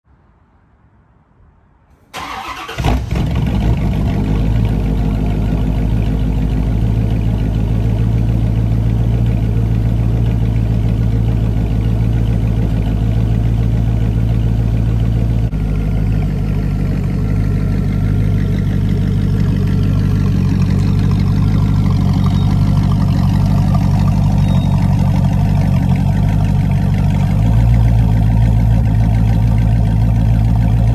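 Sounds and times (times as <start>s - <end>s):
car engine starting and idling: 2.0s - 30.9s.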